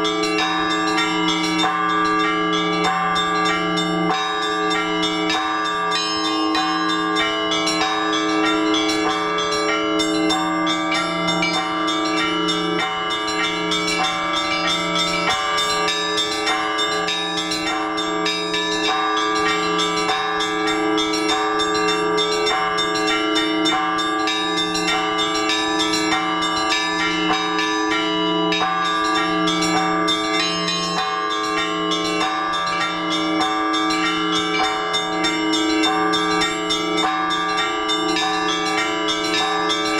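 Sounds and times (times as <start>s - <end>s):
church bells ringing: 0.0s - 39.9s
low bell tolling steadily: 0.0s - 39.9s.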